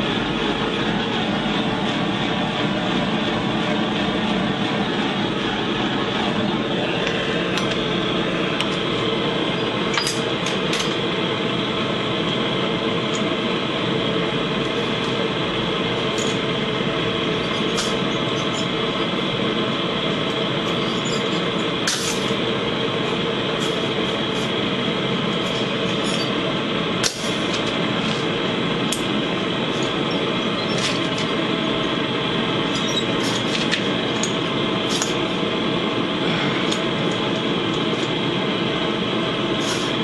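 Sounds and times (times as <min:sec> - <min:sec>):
gas torch flame rushing: 0:04.0 - 0:40.0.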